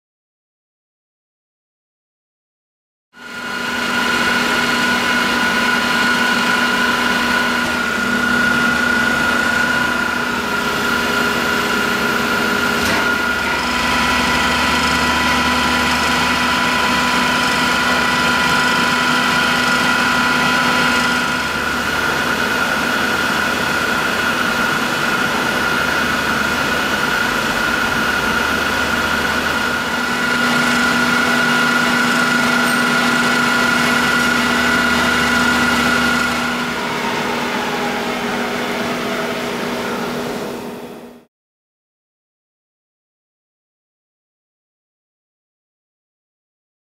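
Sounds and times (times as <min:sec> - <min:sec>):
lathe running with whine and hum: 0:03.2 - 0:41.3.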